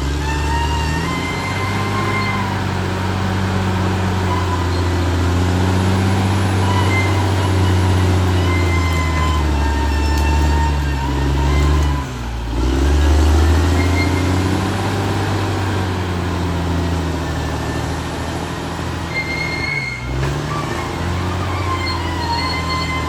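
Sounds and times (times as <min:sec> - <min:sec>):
bulldozer diesel engine running: 0:00.0 - 0:23.0
high whine: 0:00.0 - 0:23.0.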